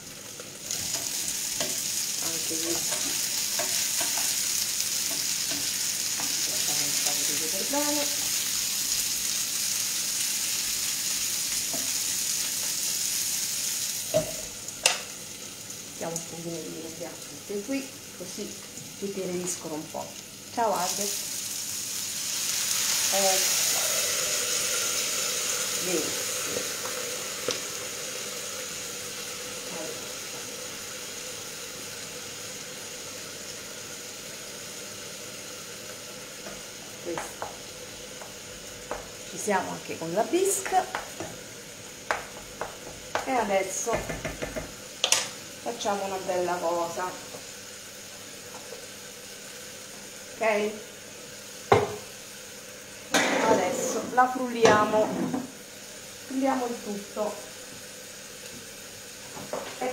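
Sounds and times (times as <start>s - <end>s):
gas hob hissing: 0.0s - 59.9s
vegetables sizzling in a pan: 0.0s - 59.9s.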